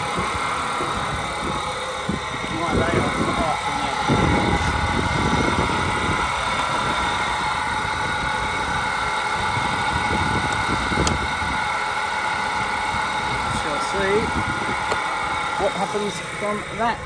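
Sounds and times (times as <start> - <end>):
car engine idling: 0.0 - 17.0
high whine from pulley: 0.0 - 17.0.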